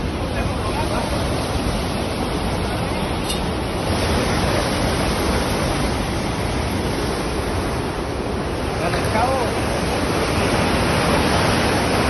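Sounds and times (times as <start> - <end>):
flooded river rushing: 0.0 - 12.0.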